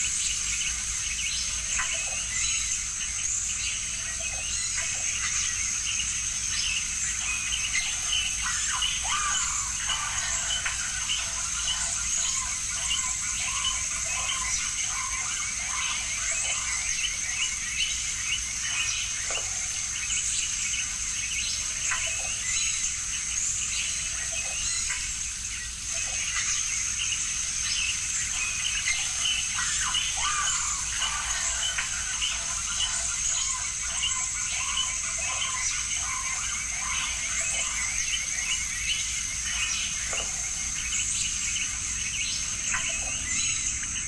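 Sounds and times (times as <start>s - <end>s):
high-pitched insect trill: 0.0s - 44.0s.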